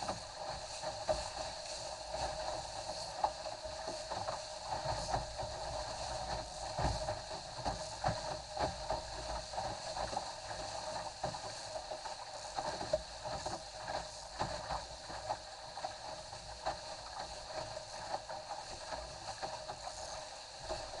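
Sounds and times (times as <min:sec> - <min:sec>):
hull knocking on waves: 0:00.0 - 0:21.0
water rushing along a hull: 0:00.0 - 0:21.0.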